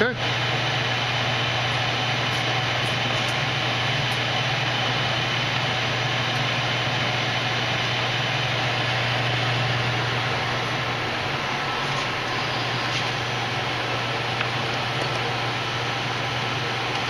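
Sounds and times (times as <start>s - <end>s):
lathe running: 0.0s - 17.0s.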